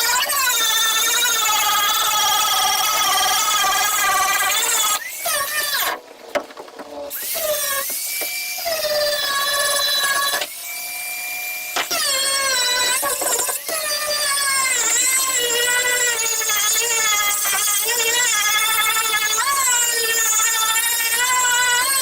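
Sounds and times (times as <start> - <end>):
electric grinder on fiberglass: 0.0 - 6.0, 7.1 - 22.0.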